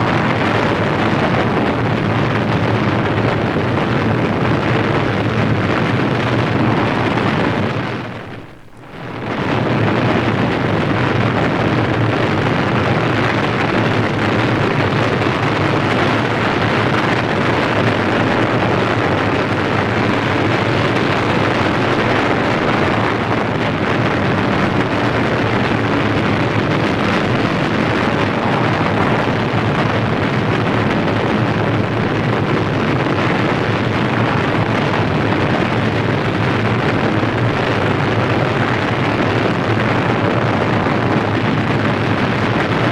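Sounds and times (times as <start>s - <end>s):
large fire burning: 0.0s - 42.9s.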